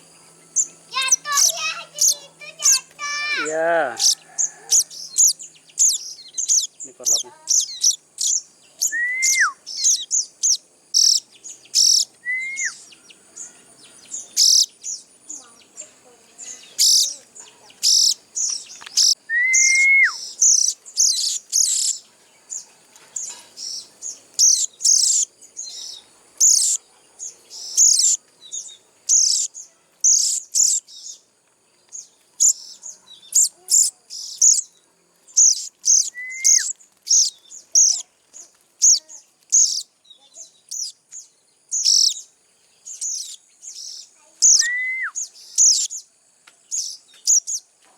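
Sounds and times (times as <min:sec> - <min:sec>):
young birds begging chirps: 0:00.0 - 0:47.8.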